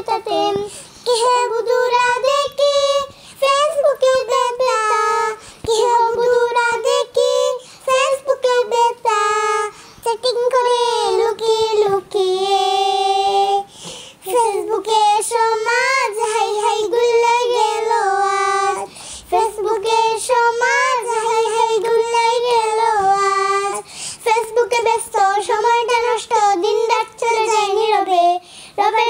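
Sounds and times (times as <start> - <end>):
girls singing: 0.0 - 29.0.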